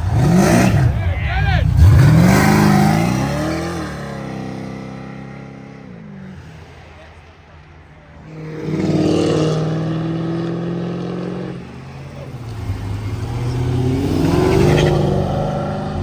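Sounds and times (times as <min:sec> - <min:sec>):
car engine accelerating: 0:00.0 - 0:07.4, 0:08.1 - 0:16.0.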